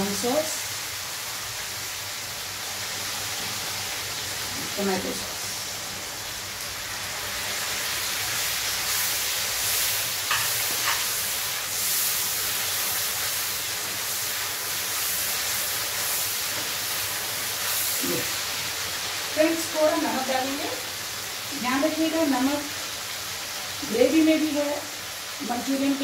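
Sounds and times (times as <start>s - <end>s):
vegetables sizzling in a wok: 0.0s - 26.0s.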